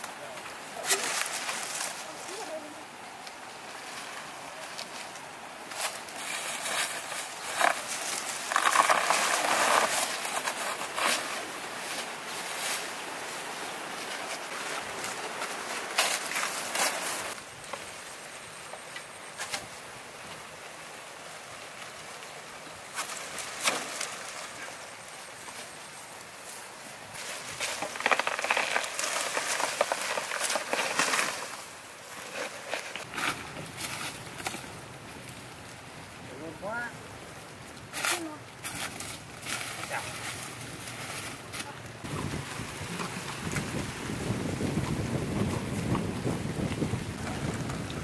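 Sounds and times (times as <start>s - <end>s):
rustling of dry leaves: 0.0s - 48.0s.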